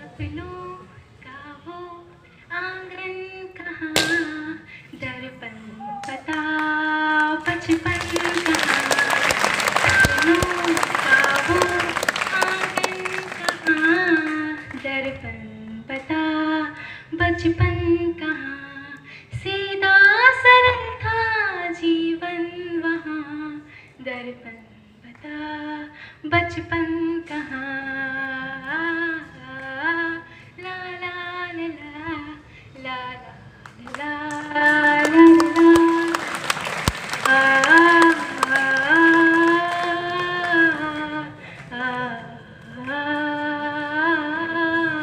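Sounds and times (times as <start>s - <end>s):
girl singing into microphone: 0.0s - 8.9s, 9.9s - 36.2s, 37.3s - 45.0s.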